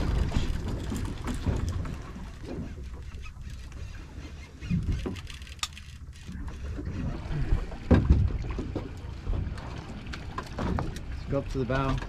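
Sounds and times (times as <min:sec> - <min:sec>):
boat rumble: 0:00.0 - 0:12.0.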